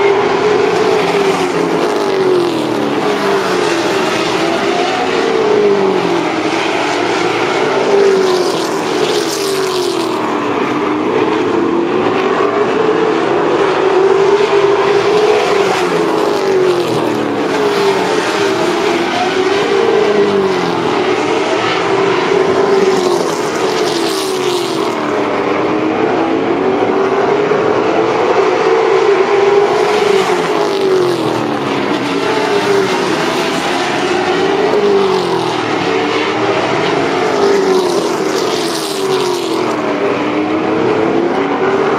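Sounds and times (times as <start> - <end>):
stock car engines racing: 0.0 - 41.9.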